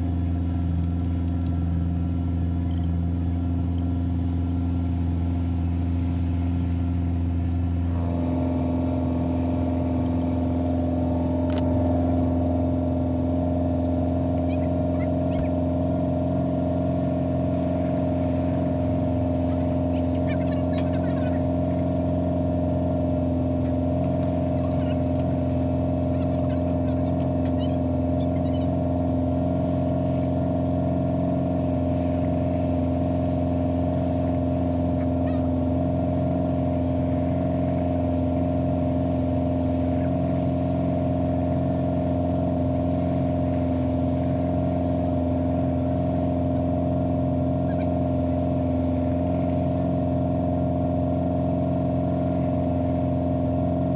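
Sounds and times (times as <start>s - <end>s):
pickup engine cruising: 0.0s - 53.9s
road noise inside cab: 0.0s - 53.9s.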